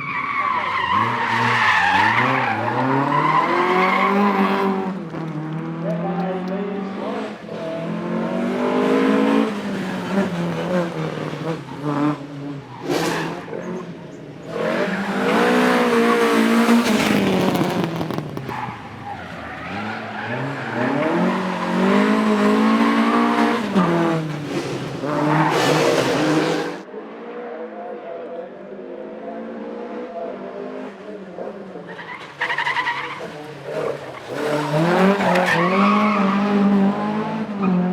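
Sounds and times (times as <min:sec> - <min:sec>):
race car engine revving through gears: 0:00.5 - 0:27.5, 0:28.9 - 0:37.9.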